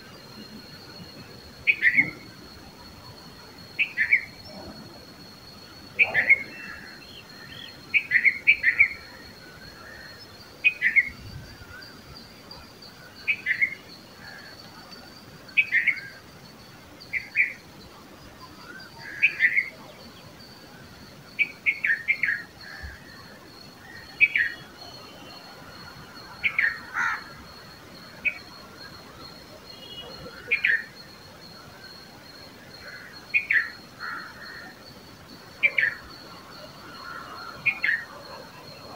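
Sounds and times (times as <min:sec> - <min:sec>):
bird chirping: 0:00.1 - 0:38.9.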